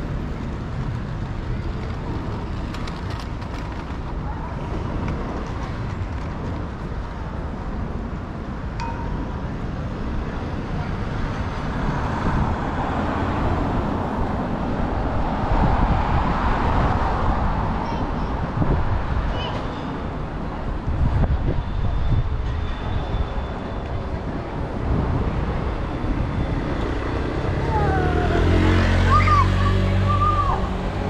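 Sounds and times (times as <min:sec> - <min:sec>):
street traffic: 0:00.0 - 0:31.0
wind buffeting microphone: 0:00.0 - 0:31.0.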